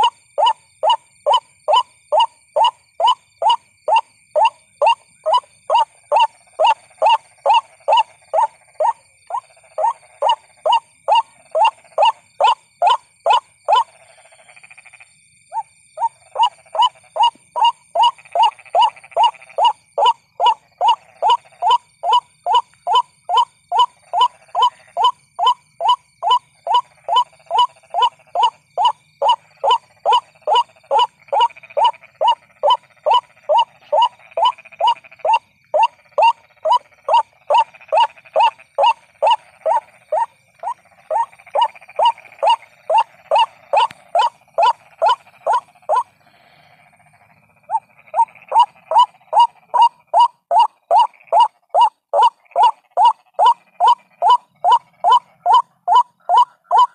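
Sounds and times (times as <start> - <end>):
recorded waterhen calls: 0.0 - 14.2, 15.5 - 56.9.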